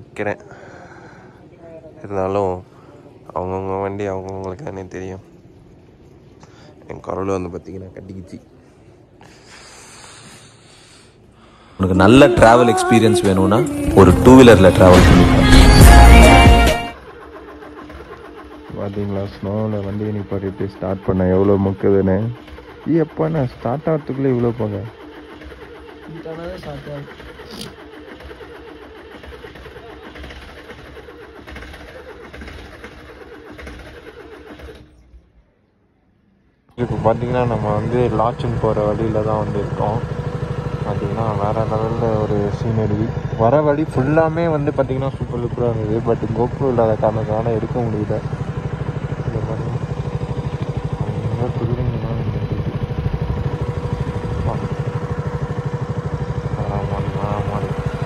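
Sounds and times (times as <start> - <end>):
diesel engine running unevenly: 8.8 - 35.0, 36.7 - 58.0.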